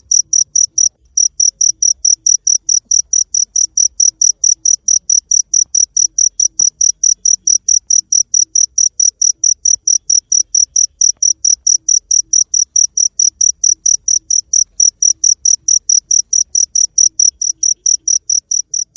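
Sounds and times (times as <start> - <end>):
cricket chirping: 0.0 - 18.9.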